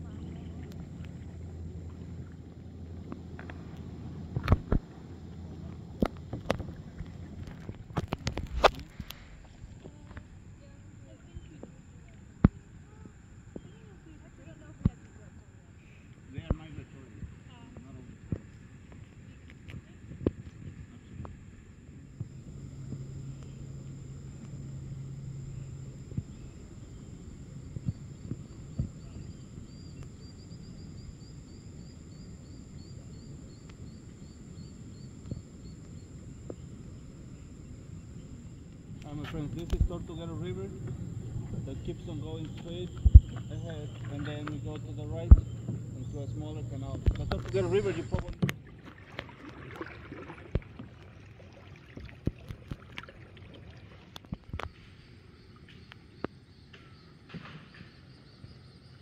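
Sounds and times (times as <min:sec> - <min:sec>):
steady low rumble: 0:00.0 - 0:49.3
steady high whine: 0:00.0 - 0:51.6
paddle in water: 0:00.0 - 0:58.2.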